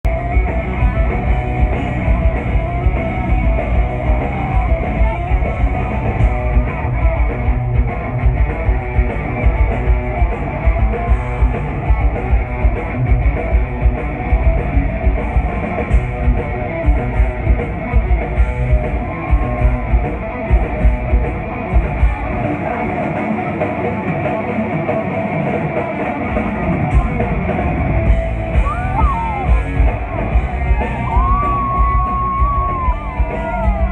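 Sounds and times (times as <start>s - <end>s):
heavy metal band playing live: 0.0s - 33.9s.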